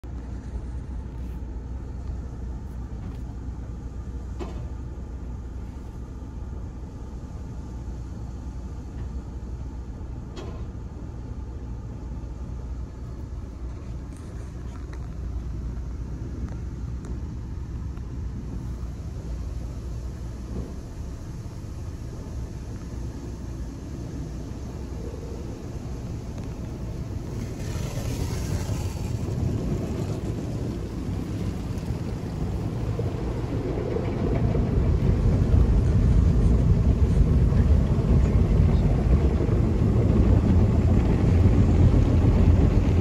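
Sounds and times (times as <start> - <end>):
car wash rumble inside car: 0.0 - 43.0.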